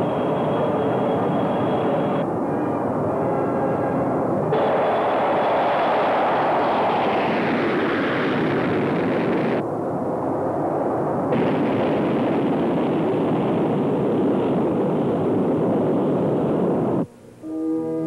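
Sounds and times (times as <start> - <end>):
loud jet roar: 0.0 - 17.0.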